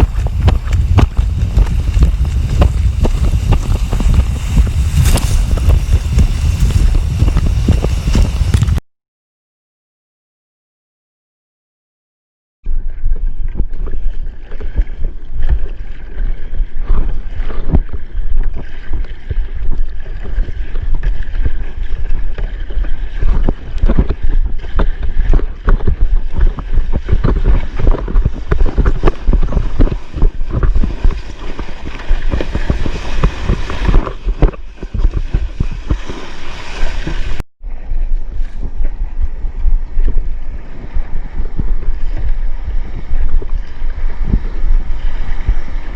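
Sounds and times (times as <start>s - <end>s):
seawater rushing and splashing: 0.0s - 8.8s, 14.3s - 45.9s
wind buffeting microphone: 0.0s - 8.8s, 16.8s - 45.9s.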